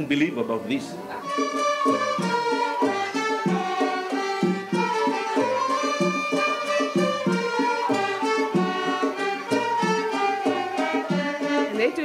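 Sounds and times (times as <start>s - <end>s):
plucked qanun notes: 0.0s - 12.0s
violin melody: 0.0s - 12.0s
steady beat: 1.2s - 12.0s.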